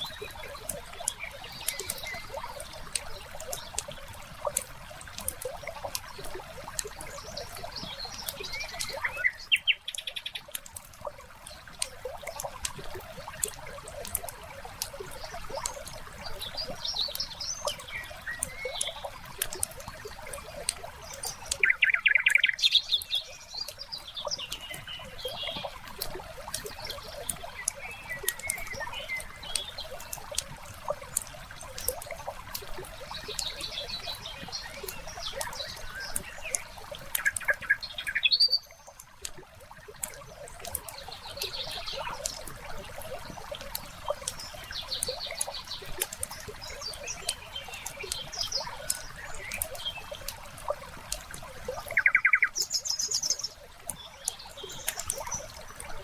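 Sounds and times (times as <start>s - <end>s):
birds chirping: 0.0s - 56.0s
water trickling: 0.0s - 56.0s.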